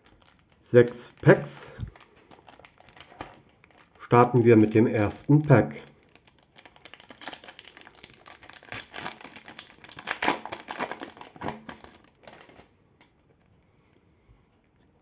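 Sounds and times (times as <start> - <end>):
foil pack crinkling: 0.0 - 13.2.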